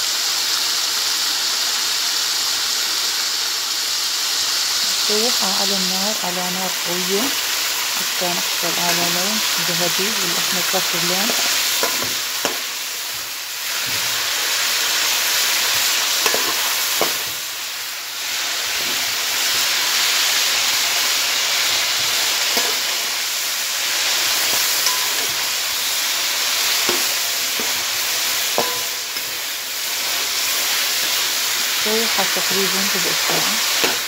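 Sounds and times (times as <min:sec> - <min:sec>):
meat sizzling in hot oil: 0:00.0 - 0:34.0.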